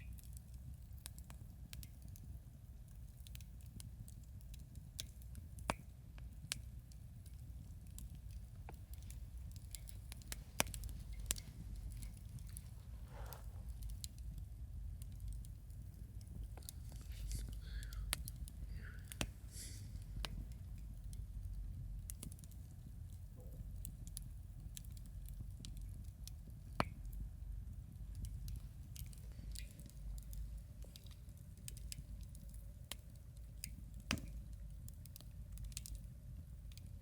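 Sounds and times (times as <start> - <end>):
campfire wood crackling: 0.0 - 37.0.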